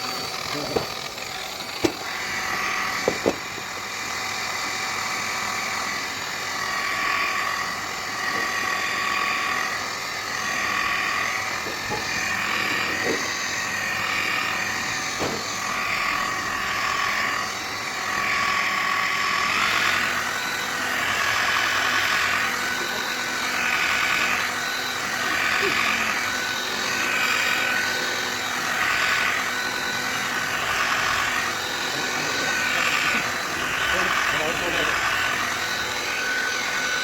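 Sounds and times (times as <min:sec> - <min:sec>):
small electric motor whining: 0:00.0 - 0:37.0.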